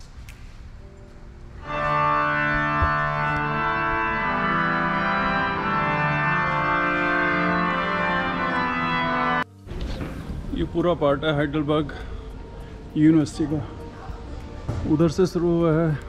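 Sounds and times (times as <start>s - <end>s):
organ playing sustained chords: 0.8s - 16.0s.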